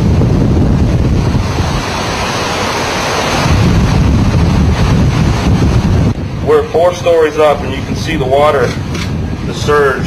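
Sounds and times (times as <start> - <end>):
driving rain: 0.0 - 10.0
storm surge water: 0.0 - 10.0
wind buffeting microphone: 0.0 - 10.0.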